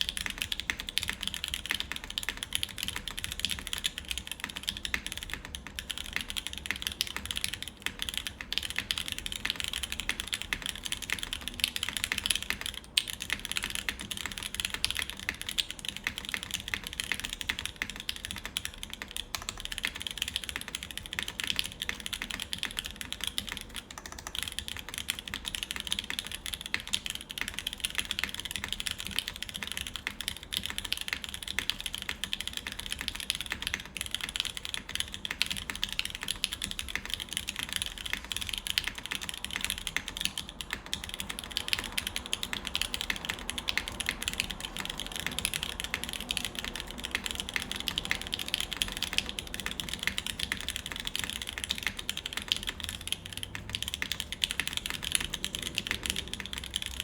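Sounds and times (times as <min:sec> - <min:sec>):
fast typing on mechanical keyboard: 0:00.0 - 0:57.0.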